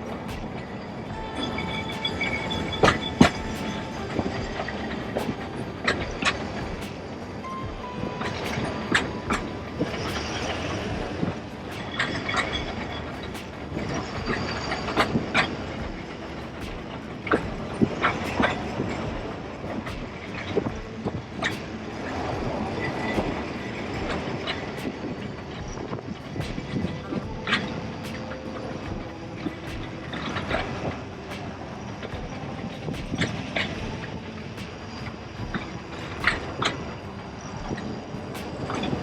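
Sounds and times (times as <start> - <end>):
tramcar rumbling on rails: 0.0 - 39.0.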